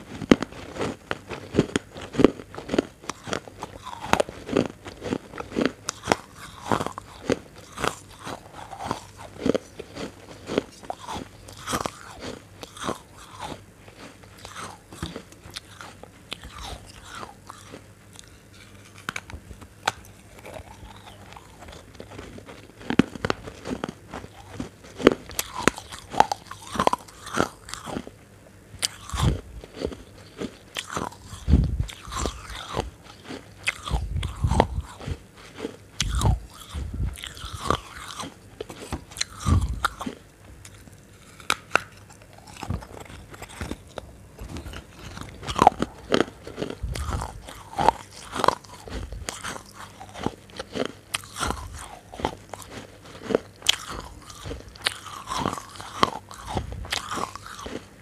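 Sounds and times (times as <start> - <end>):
crunchy food chewing: 0.0 - 28.2, 28.8 - 58.0.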